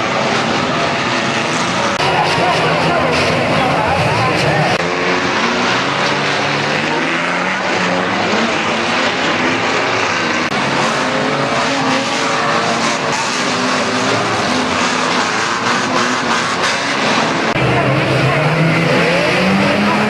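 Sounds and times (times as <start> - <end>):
racing car engines revving: 0.0 - 20.0
tyres skidding: 0.0 - 20.0.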